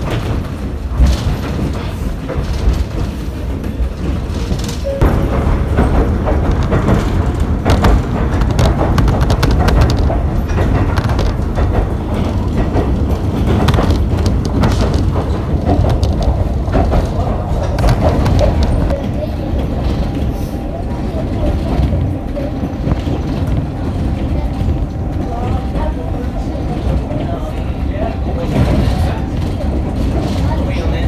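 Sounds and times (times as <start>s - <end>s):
train rumbling: 0.0s - 31.0s
wheels clicking and rattling: 0.0s - 31.0s.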